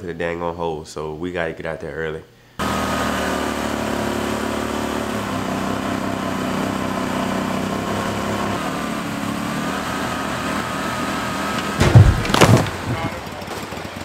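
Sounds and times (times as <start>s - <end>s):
outboard motor running: 2.6s - 14.0s.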